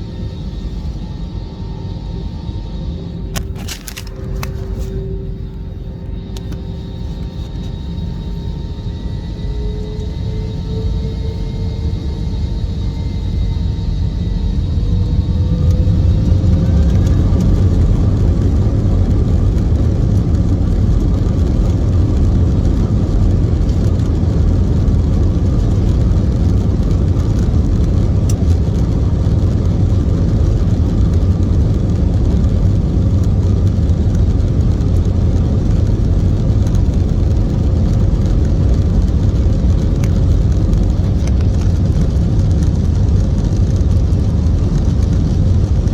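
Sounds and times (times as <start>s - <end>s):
jet engines spooling up: 0.0s - 45.9s.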